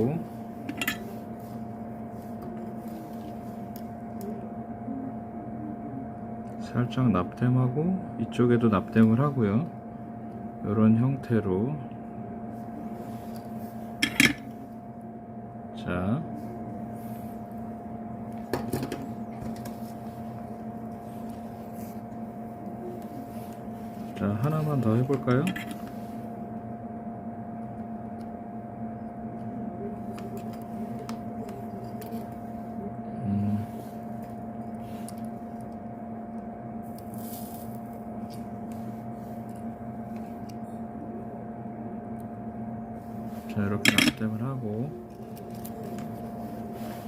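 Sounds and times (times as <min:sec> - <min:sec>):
constant high whine: 0:00.0 - 0:47.0
electrical hum: 0:00.0 - 0:47.0.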